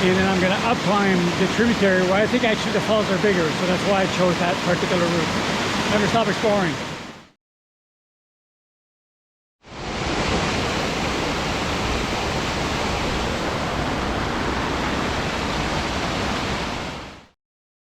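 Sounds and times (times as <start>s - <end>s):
waterfall rushing: 0.0s - 7.2s, 9.7s - 17.2s.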